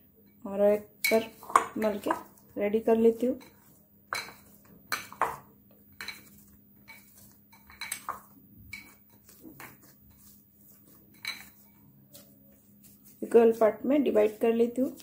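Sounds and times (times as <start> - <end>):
dough being kneaded by hand: 0.4 - 15.0.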